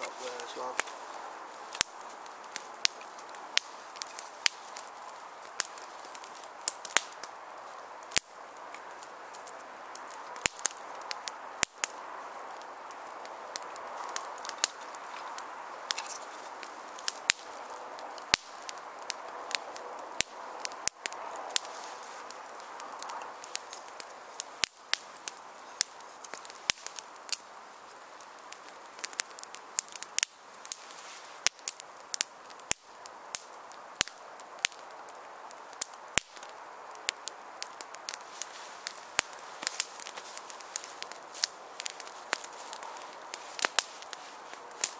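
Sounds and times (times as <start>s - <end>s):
fire crackling and popping: 0.0s - 44.9s
fire hissing: 0.0s - 44.9s.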